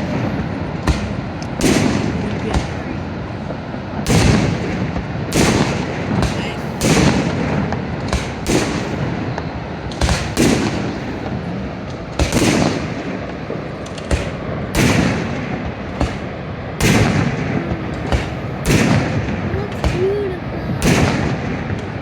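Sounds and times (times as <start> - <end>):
fireworks bangs echoing: 0.0 - 22.0.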